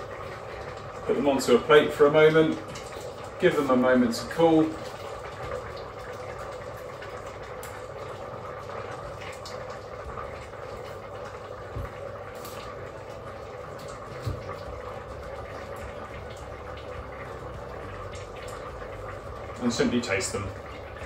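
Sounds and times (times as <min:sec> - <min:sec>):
broth bubbling in a pot: 0:00.0 - 0:21.0.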